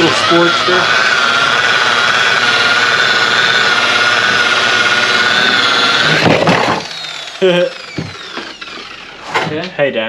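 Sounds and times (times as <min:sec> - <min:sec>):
polisher motor whine: 0:00.0 - 0:09.4.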